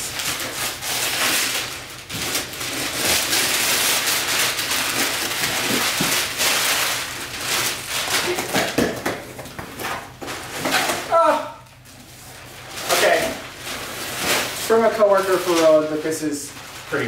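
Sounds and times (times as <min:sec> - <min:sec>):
wrapping paper tearing and crinkling: 0:00.0 - 0:17.0.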